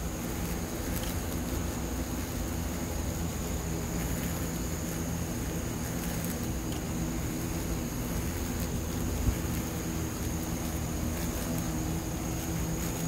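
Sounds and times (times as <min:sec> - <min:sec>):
even hiss: 0:00.0 - 0:13.0
hornets buzzing: 0:00.0 - 0:13.0.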